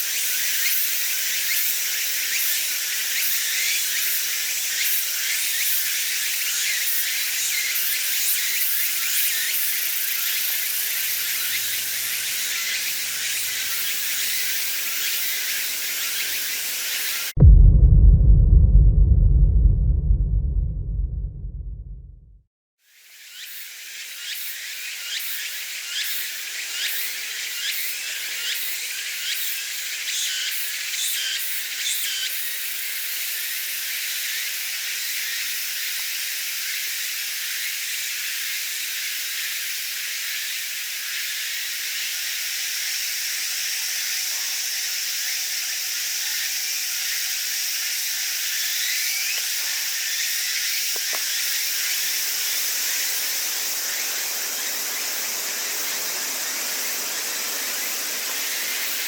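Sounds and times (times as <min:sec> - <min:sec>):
cicadas and insects buzzing: 0:00.0 - 0:17.3, 0:23.0 - 0:59.0.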